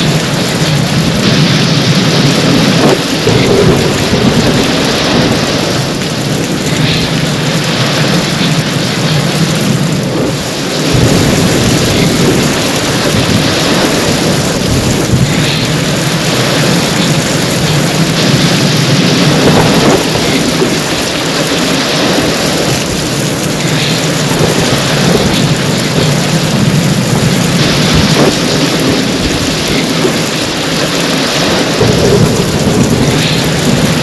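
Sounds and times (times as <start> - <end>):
deep thunder rumble: 0.0 - 34.0
heavy rain pouring: 0.0 - 34.0.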